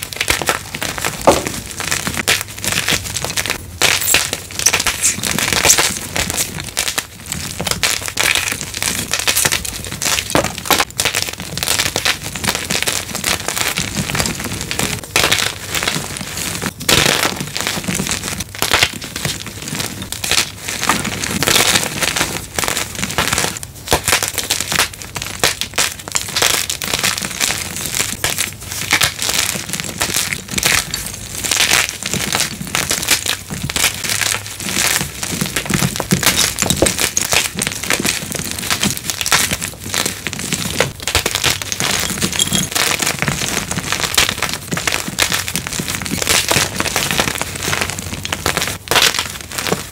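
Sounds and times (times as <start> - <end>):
chalk being crushed: 0.0 - 49.9.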